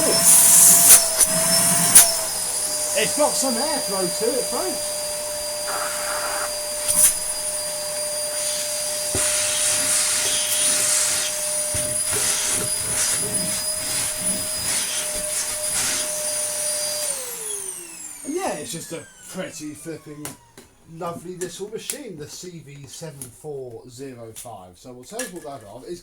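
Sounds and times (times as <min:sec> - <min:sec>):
vacuum cleaner running: 0:00.0 - 0:21.4.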